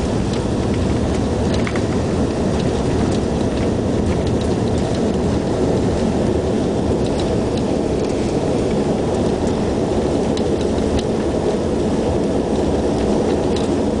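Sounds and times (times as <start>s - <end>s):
airliner engine drone: 0.0s - 14.0s
runway rumble: 0.0s - 14.0s.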